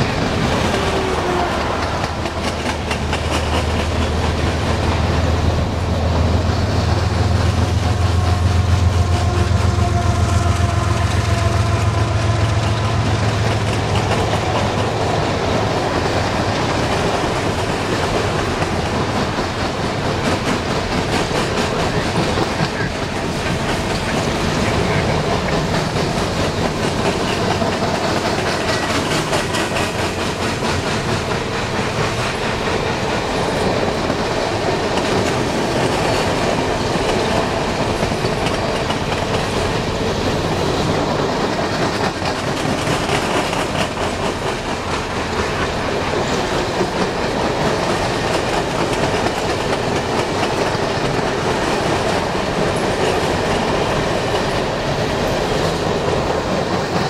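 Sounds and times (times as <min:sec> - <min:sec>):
freight train rumbling past: 0:00.0 - 0:57.0
wheels clacking over rails: 0:00.0 - 0:57.0.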